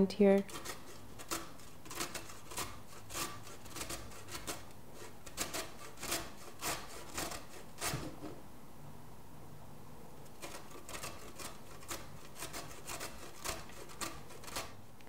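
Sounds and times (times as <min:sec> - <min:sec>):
beet grated on box grater: 0:00.2 - 0:08.3, 0:10.2 - 0:14.8.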